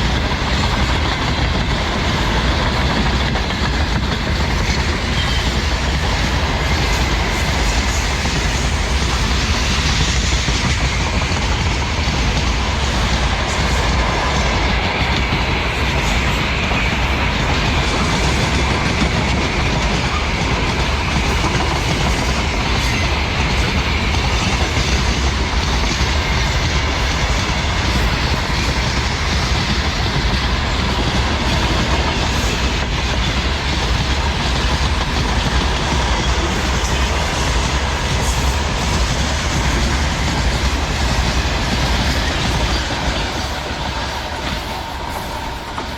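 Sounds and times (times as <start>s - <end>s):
freight train wheels clattering: 0.0s - 45.9s.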